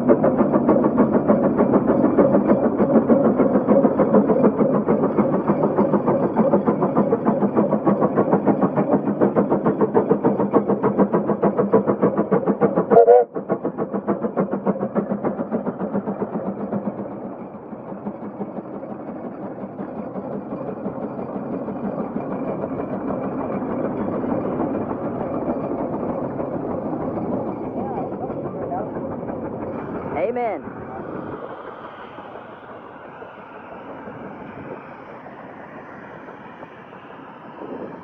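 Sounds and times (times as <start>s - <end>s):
steam engine exhaust chuffing: 0.0s - 38.0s.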